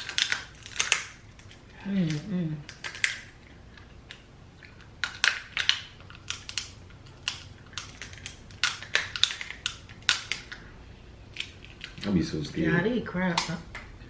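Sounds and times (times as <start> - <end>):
crab shell cracking: 0.0 - 10.6, 11.3 - 12.1.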